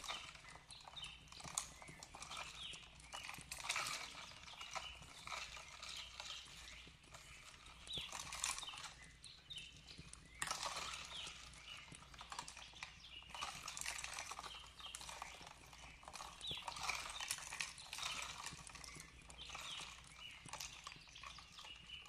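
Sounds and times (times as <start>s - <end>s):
bird chirps: 0.0s - 22.0s.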